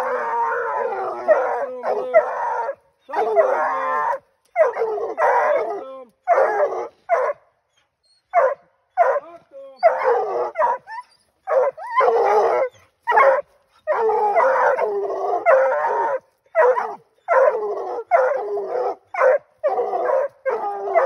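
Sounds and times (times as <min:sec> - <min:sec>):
hounds barking and bawling: 0:00.0 - 0:07.5, 0:08.3 - 0:21.0.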